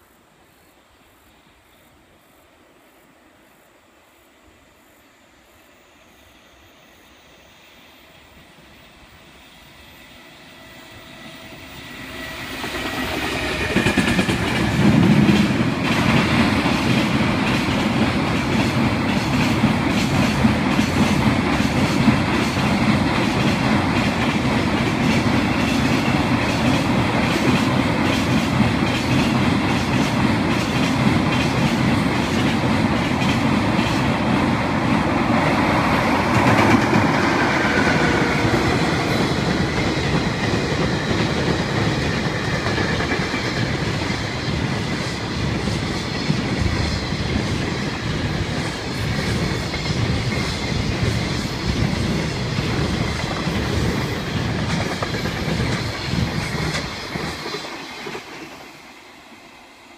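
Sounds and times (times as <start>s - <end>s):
freight train rumble: 8.0s - 59.9s.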